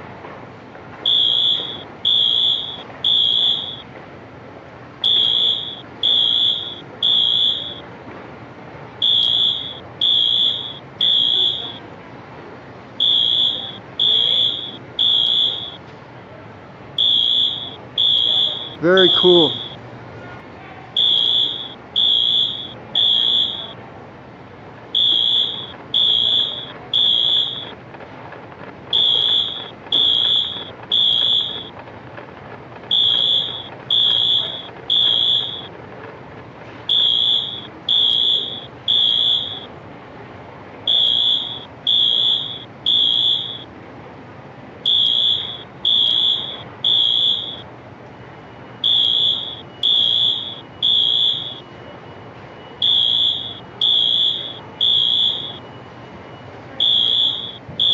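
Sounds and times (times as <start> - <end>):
fire alarm horns beeping: 0.9 - 4.0, 4.9 - 8.0, 9.0 - 12.0, 13.0 - 15.9, 16.8 - 19.8, 20.9 - 23.8, 24.8 - 27.9, 28.7 - 36.0, 36.6 - 39.9, 40.8 - 43.8, 44.8 - 57.9.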